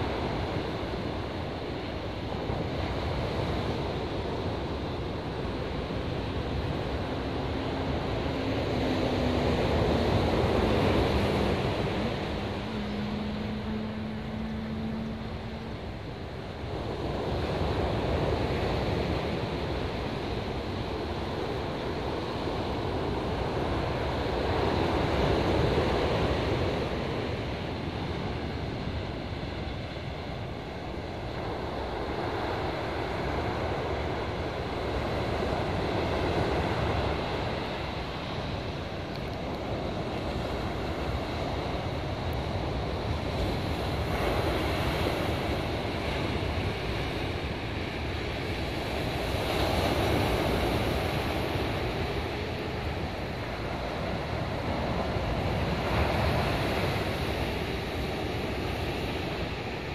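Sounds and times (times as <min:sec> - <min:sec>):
ocean surf breaking on beach: 0:00.0 - 0:59.9
wind rumbling on microphone: 0:00.0 - 0:59.9.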